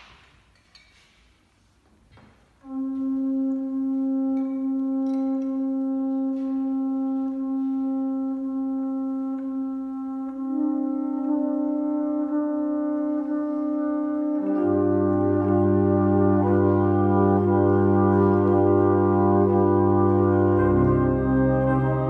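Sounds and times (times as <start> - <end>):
horn band holding a steady note: 2.6 - 22.0.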